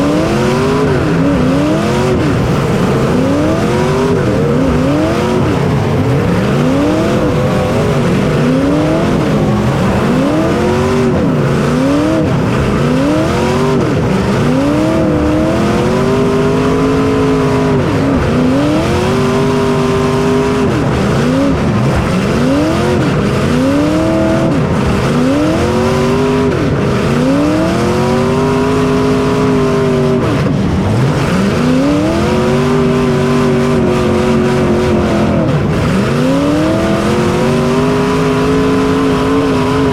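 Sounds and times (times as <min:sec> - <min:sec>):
constant rushing noise: 0:00.0 - 0:39.9
racing engine revving: 0:00.0 - 0:39.9.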